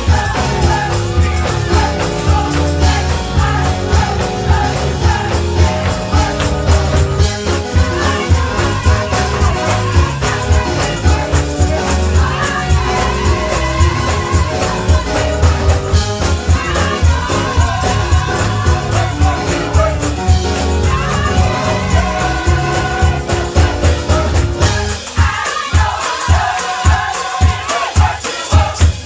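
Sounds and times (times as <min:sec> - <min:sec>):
band with bass and beat: 0:00.0 - 0:29.0
gospel choir singing: 0:00.0 - 0:29.0.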